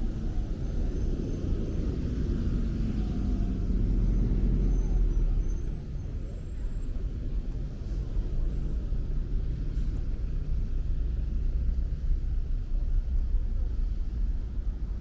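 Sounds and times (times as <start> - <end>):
road vehicles rumbling: 0.0 - 15.0.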